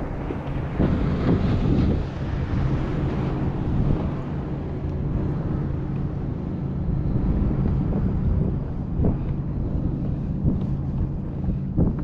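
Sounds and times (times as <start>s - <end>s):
boat motor humming: 0.0s - 12.0s
wind buffeting microphone: 0.0s - 12.0s.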